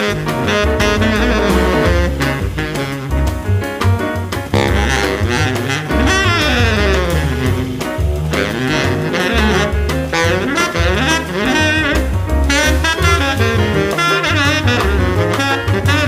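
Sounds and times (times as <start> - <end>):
drums: 0.0 - 16.0
saxophone melody: 0.0 - 16.0
walking bass: 0.0 - 16.0.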